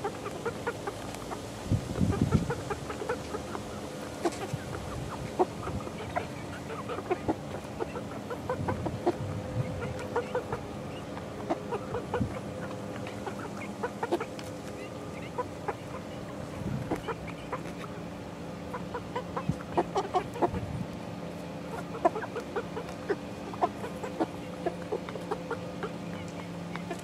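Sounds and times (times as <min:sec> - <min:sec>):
chickens clucking and cheeping: 0:00.0 - 0:27.0
steady low hum: 0:00.0 - 0:27.0.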